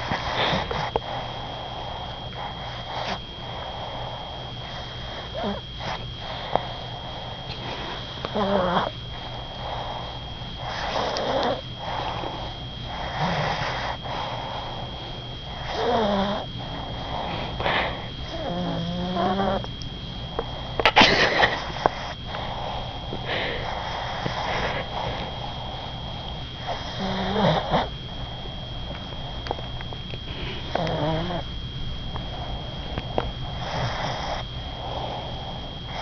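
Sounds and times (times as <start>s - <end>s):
dog snoring: 0.0s - 29.7s, 30.3s - 31.5s, 32.2s - 36.0s.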